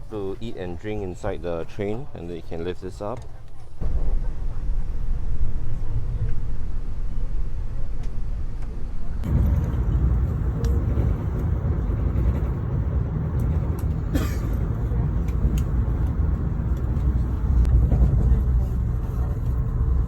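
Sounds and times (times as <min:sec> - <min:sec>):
train rumble inside carriage: 0:03.8 - 0:20.0.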